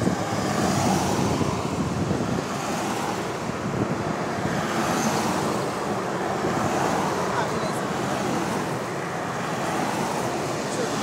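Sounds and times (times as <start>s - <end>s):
vehicles driving past: 0.0s - 11.0s.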